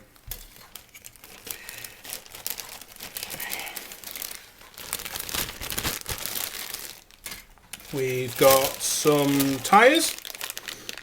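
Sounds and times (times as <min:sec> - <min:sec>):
plastic bags crinkling: 0:00.3 - 0:11.0.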